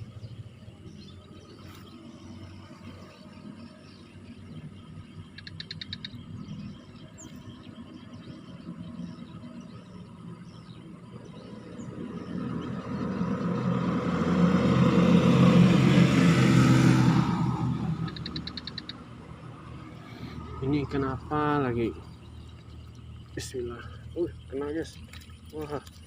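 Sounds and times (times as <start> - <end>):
vehicle passing on road: 0.0 - 26.0.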